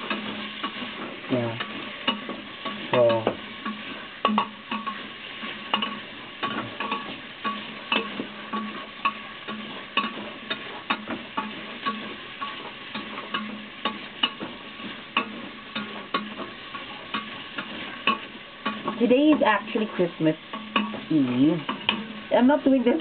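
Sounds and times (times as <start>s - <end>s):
meat sizzling in a pan: 0.0s - 23.0s.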